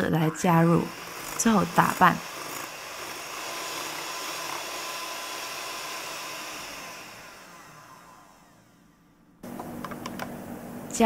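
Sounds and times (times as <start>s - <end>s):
electric hand mixer whirring: 0.0s - 10.0s.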